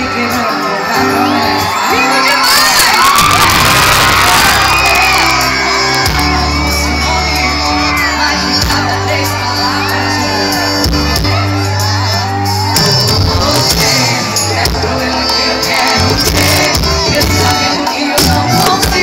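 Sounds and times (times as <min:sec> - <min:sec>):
audience shouting and singing: 0:00.0 - 0:19.0
live band music over loudspeakers: 0:00.0 - 0:19.0.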